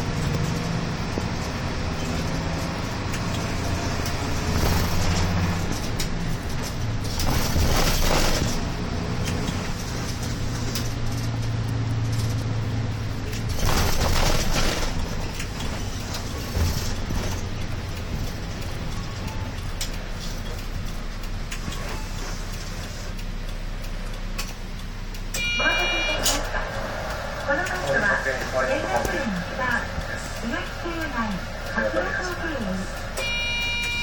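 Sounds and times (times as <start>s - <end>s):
bus diesel engine running: 0.0s - 34.0s
road noise: 0.0s - 34.0s.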